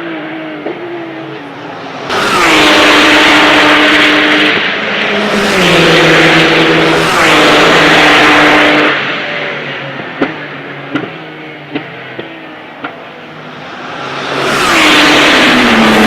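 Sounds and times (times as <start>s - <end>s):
engines screaming at high revs: 0.0s - 16.0s
race cars passing at speed: 0.0s - 16.0s.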